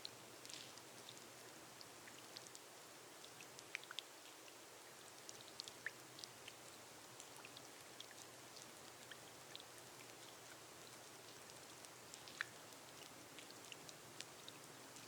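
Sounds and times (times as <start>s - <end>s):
rain hissing on glass roof: 0.0s - 15.0s
raindrops ticking: 0.0s - 15.0s.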